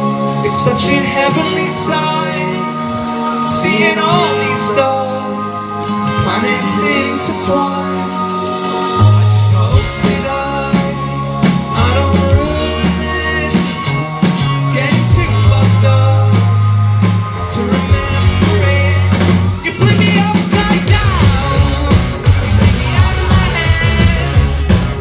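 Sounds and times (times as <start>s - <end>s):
deep bass notes: 0.0s - 25.0s
drum kit: 0.0s - 25.0s
electric guitars: 0.0s - 25.0s
person singing: 0.0s - 25.0s.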